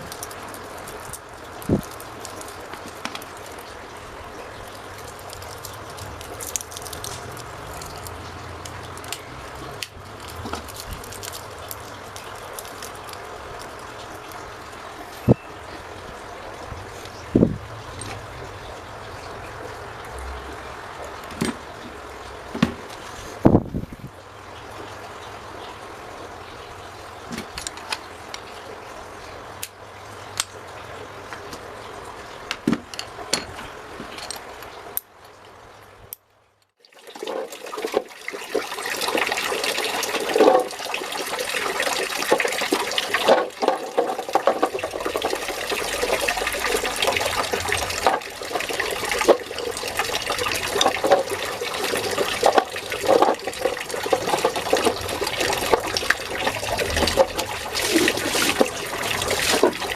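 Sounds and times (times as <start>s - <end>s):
running water splashing: 0.0s - 32.5s, 36.8s - 59.9s.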